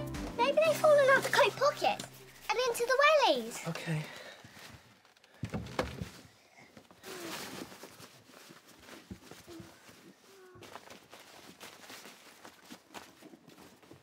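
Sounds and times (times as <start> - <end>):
rummaging and rustling: 0.5 - 3.5, 4.2 - 14.0.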